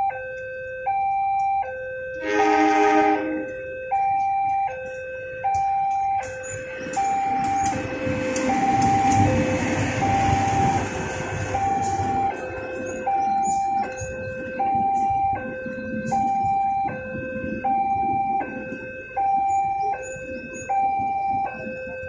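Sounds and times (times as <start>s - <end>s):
train wheels rumbling on rails: 2.1s - 22.0s.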